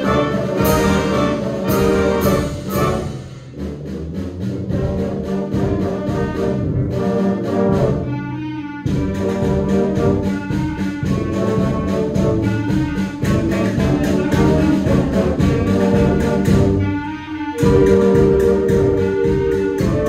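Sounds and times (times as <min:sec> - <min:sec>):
sharp drum beats: 0:00.0 - 0:08.2, 0:08.9 - 0:20.0
concert band playing: 0:00.0 - 0:20.0.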